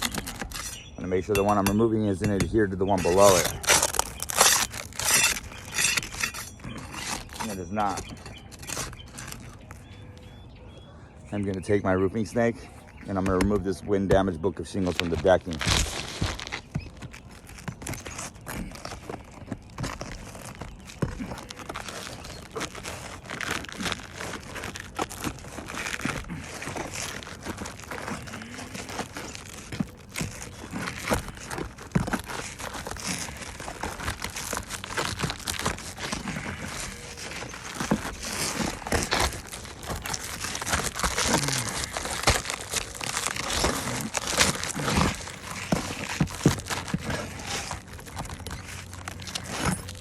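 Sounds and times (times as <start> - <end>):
shingle crackling and tearing: 0.0 - 10.3, 12.9 - 50.0.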